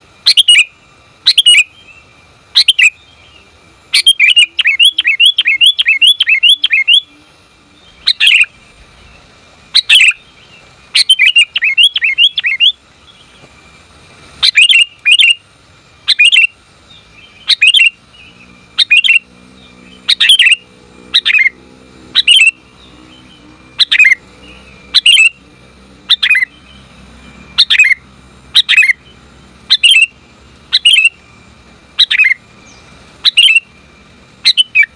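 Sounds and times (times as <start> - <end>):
bird calling with descending notes: 0.2 - 13.6, 14.4 - 34.9.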